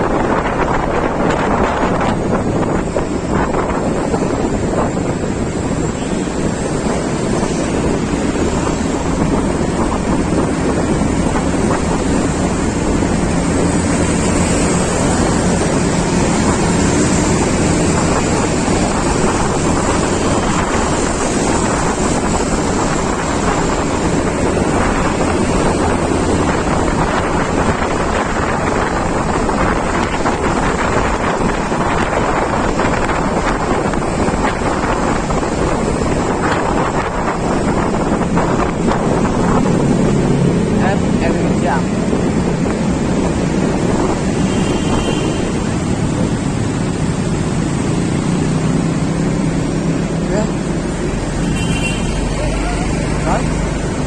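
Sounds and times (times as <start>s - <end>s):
road and vehicle rumble: 0.0s - 54.0s
wind buffeting microphone: 0.0s - 54.0s.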